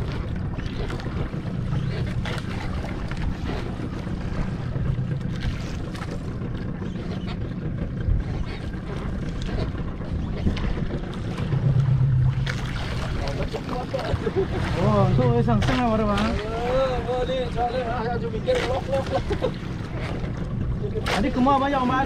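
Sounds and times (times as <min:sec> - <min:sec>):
boat engine humming: 0:00.0 - 0:22.0
water washing: 0:00.0 - 0:22.0
wind buffeting microphone: 0:00.0 - 0:22.0.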